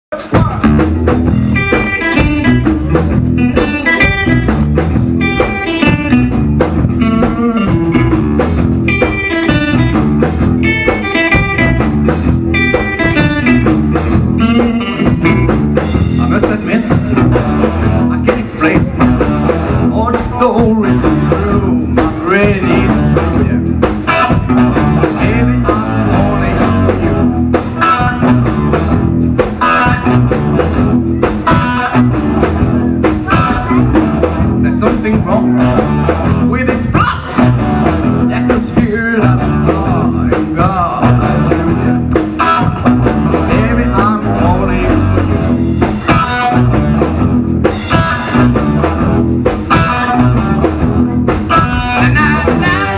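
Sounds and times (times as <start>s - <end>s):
live blues-rock band: 0.1s - 52.9s
electric guitar riff: 0.2s - 52.9s.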